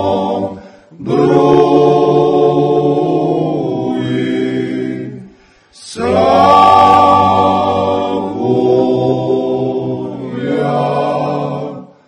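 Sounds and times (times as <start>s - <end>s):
a cappella choir singing chords: 0.0s - 12.0s.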